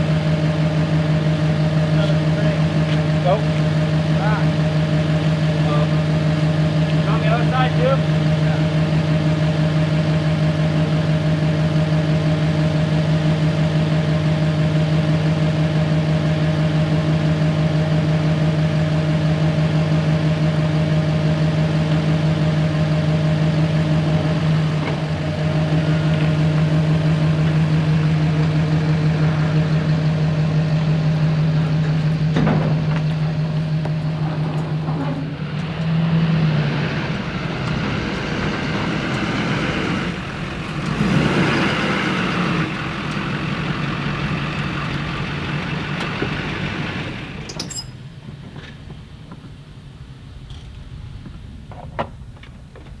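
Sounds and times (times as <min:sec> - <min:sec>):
machinery engine running: 0:00.0 - 0:48.6.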